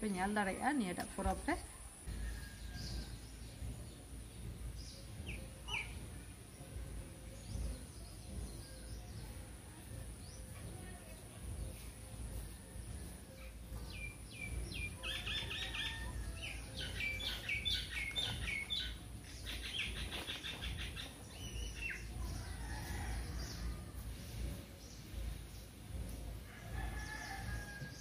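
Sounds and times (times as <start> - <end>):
low outdoor rumble: 0.0 - 28.0
small birds chirping: 0.1 - 28.0.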